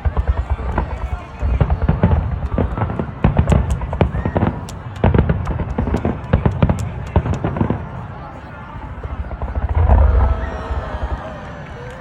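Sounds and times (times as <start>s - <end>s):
fireworks booming: 0.0s - 8.0s, 9.0s - 11.2s
fireworks crackling: 0.0s - 8.2s, 9.0s - 11.9s.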